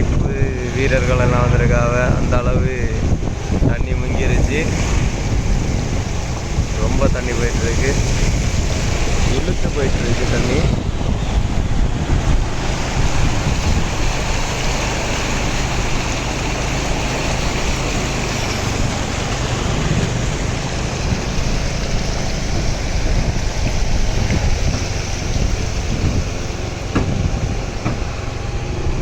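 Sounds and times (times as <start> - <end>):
motorbike engine hum: 0.0 - 29.0
wind on microphone: 0.0 - 29.0.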